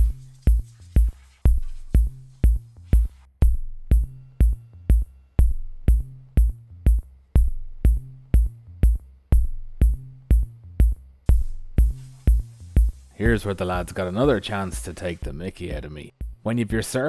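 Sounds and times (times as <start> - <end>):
electronic music with drum-machine beat: 0.0 - 17.0.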